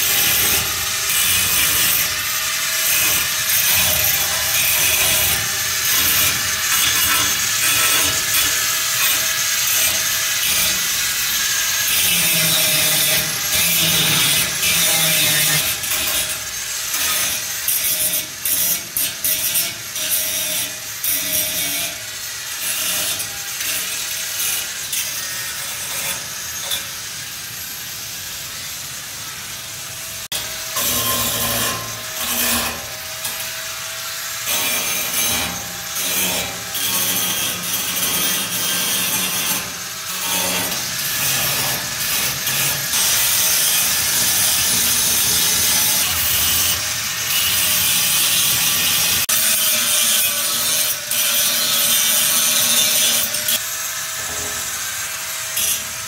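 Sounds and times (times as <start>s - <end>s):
tool scraping a surface: 0.0s - 27.4s, 30.2s - 56.0s.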